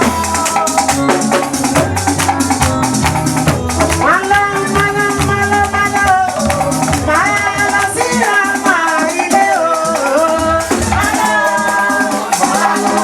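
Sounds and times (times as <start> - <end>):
rattling shaker percussion: 0.0 - 13.0.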